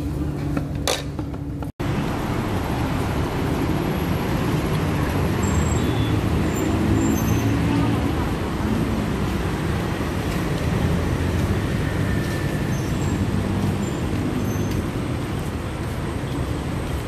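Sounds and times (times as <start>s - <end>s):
city road traffic rumble: 0.0s - 17.0s.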